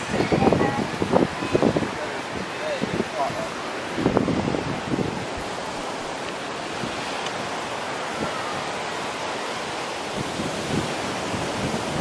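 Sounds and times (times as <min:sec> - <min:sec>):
ocean surf breaking: 0:00.0 - 0:12.0
wind on microphone: 0:00.0 - 0:12.0.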